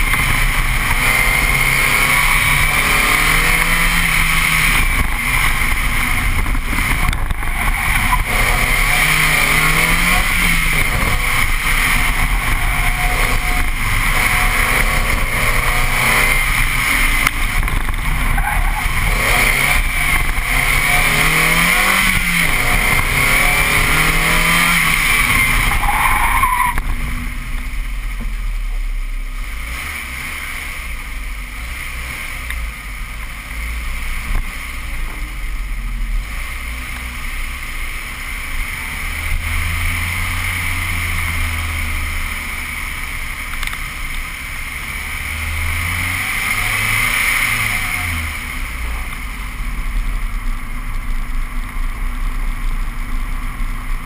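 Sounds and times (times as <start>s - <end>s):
car engine revving: 0.0s - 54.0s
road noise: 0.0s - 54.0s.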